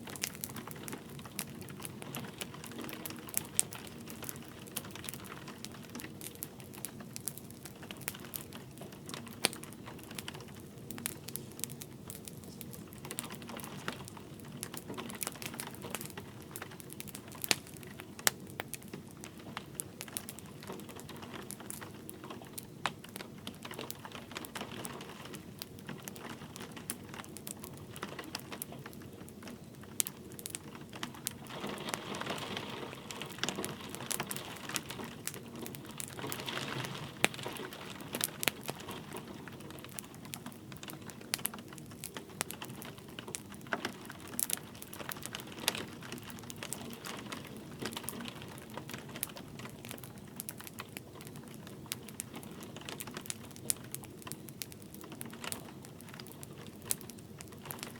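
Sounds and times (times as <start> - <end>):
light rain pattering: 0.0 - 57.9
wood fire crackling and popping: 0.0 - 57.9.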